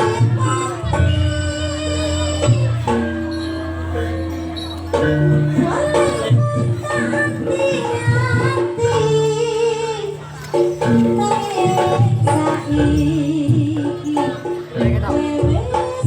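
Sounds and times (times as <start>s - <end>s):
gamelan notes: 0.0s - 16.0s
person singing: 0.0s - 16.0s.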